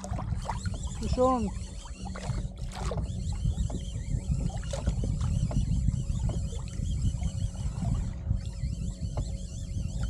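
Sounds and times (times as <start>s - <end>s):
fishing reel whirring: 0.0s - 10.0s
reel clicks: 0.0s - 10.0s
steady low rumble: 0.0s - 10.0s.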